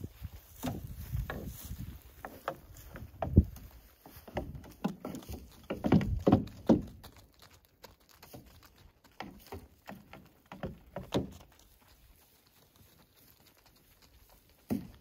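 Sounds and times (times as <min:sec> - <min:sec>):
hooves on gravel: 0:00.0 - 0:15.0.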